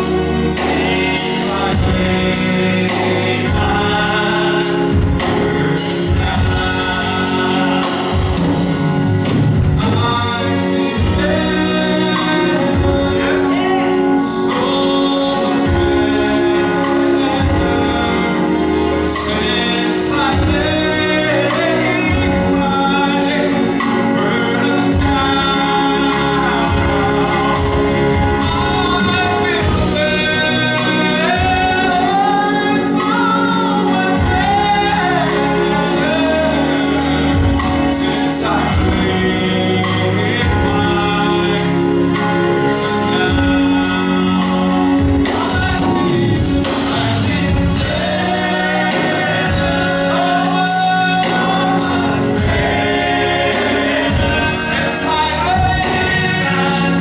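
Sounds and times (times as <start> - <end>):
band with steady drum beat: 0.0 - 57.0
gospel singing voices: 0.0 - 57.0.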